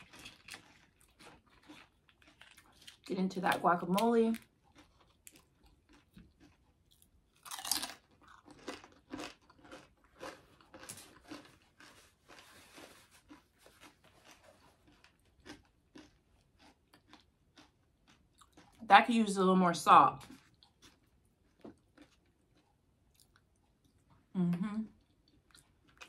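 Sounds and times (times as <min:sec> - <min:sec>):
chip crunching: 0:00.0 - 0:18.9, 0:20.2 - 0:23.5
soft chewing: 0:00.0 - 0:18.9, 0:20.2 - 0:26.0.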